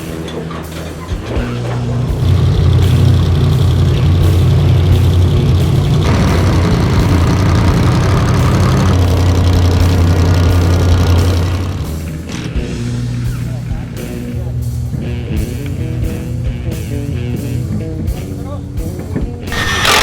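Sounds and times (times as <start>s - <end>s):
truck engine at high revs: 0.0s - 18.3s, 19.5s - 20.0s.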